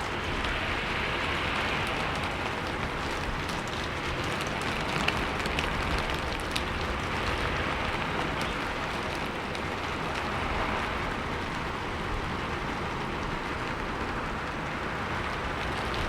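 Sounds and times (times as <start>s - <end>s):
raindrops ticking on a surface: 0.0s - 16.0s
steady rainfall hiss: 0.0s - 16.0s.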